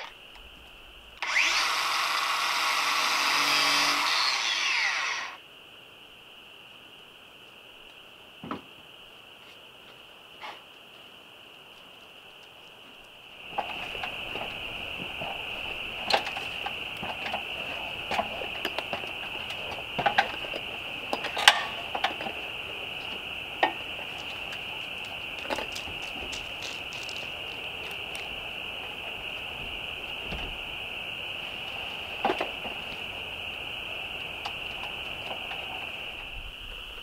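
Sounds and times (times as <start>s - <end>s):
high insect chorus: 0.0s - 37.0s.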